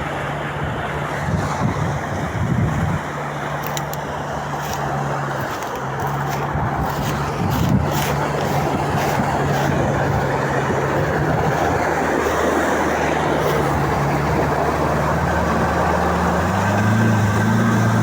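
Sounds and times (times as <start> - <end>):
rushing water noise: 0.0 - 18.0
vehicle engine running: 0.0 - 18.0.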